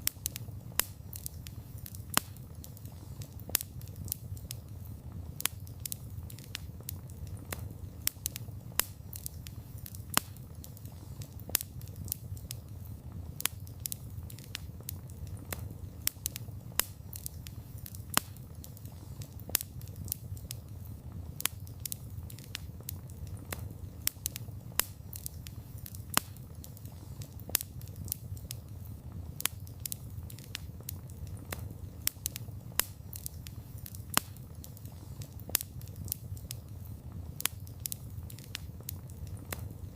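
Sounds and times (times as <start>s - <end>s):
campfire crackling: 0.0s - 39.9s
sharp pops and snaps: 0.0s - 39.9s.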